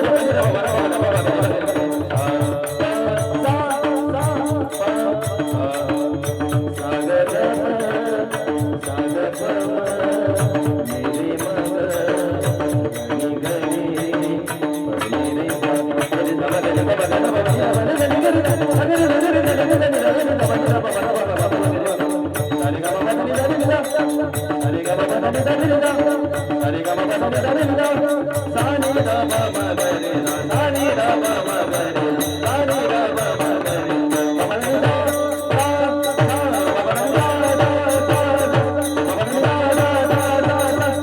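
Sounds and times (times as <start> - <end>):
hand drums: 0.0 - 41.0.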